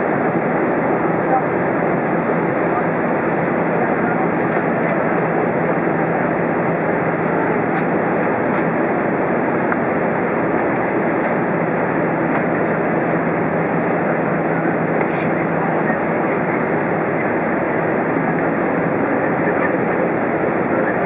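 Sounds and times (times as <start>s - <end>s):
airflow and jet engine noise: 0.0s - 21.0s.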